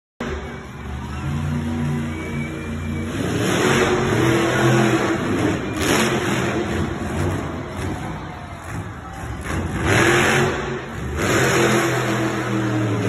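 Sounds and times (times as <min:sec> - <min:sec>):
truck engine revving hard: 0:00.2 - 0:13.0.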